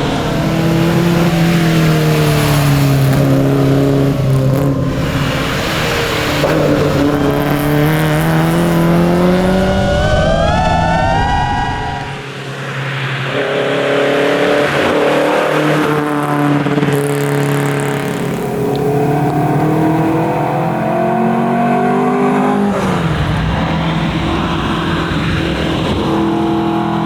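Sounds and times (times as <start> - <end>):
car engine pulling hard: 0.0 - 27.0.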